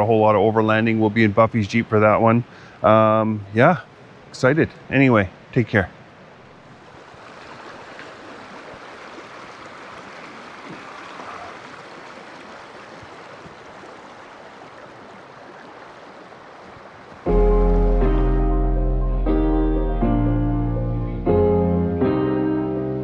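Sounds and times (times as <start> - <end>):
flowing water rushing: 0.0 - 18.4.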